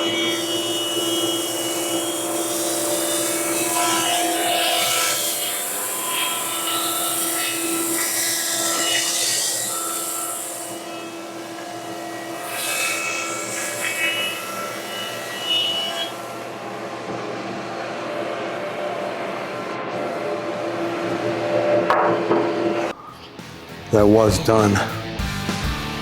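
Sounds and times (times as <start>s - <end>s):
dust collector running: 0.0s - 23.0s
thickness planer cutting wood: 0.0s - 23.0s.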